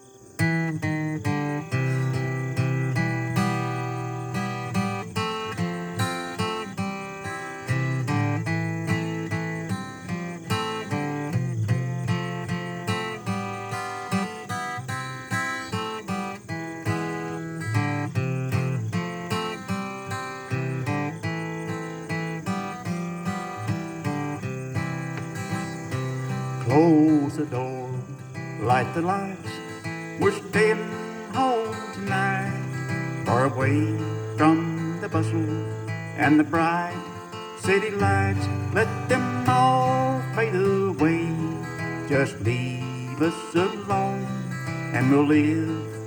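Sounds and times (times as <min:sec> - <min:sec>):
acoustic guitar strumming: 0:00.4 - 0:46.0.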